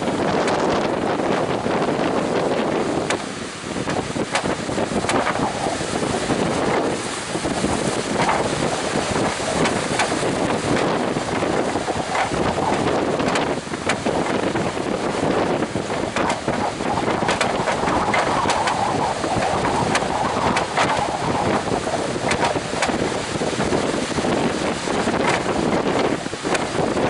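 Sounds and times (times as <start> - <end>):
heavy surf: 0.0 - 27.0
strong wind on microphone: 0.0 - 27.0.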